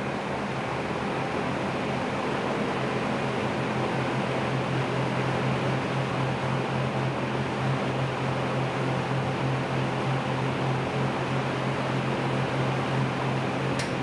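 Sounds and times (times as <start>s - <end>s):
box fan running: 0.0s - 14.0s.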